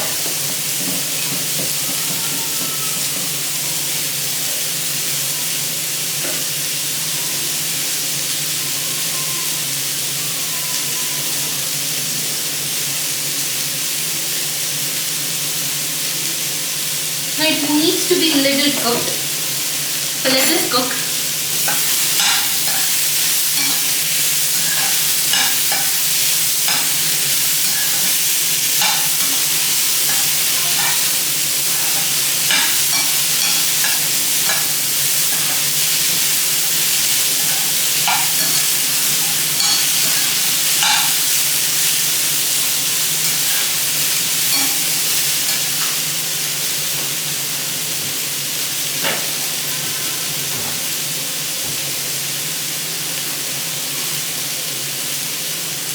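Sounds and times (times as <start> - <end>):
vegetables sizzling in a pan: 0.0 - 55.9.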